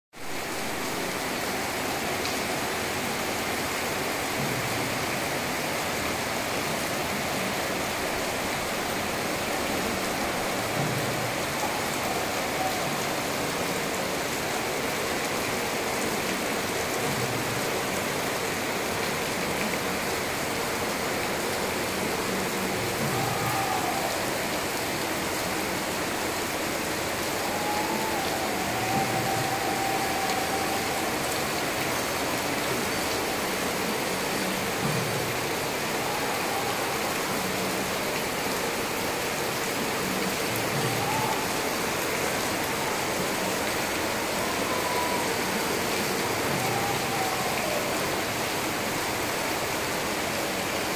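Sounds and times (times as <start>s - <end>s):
heavy rain pouring: 0.1s - 50.9s.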